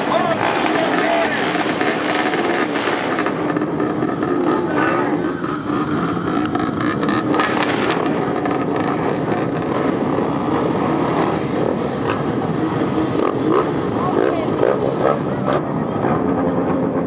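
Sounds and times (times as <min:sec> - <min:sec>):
motorcycles revving: 0:00.0 - 0:17.0.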